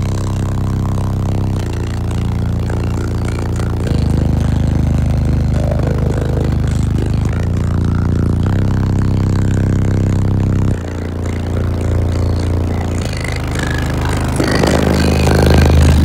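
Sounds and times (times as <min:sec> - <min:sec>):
deep subwoofer bass: 0:00.0 - 0:16.0.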